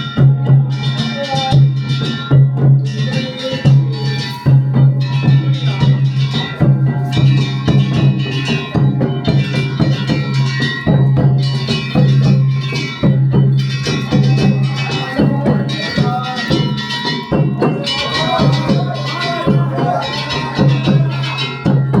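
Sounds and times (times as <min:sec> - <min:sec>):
drum and wood-block strikes: 0:00.0 - 0:22.0
sustained ringing high tones: 0:00.0 - 0:22.0.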